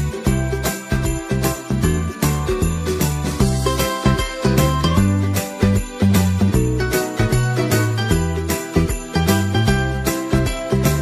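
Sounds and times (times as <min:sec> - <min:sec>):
christmas music: 0:00.0 - 0:11.0
jingle bells shaken: 0:00.0 - 0:11.0.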